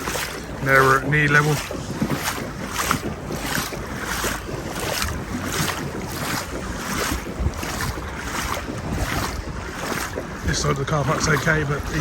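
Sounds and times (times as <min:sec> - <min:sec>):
wading through water: 0:00.0 - 0:12.0
wind buffeting microphone: 0:00.0 - 0:12.0.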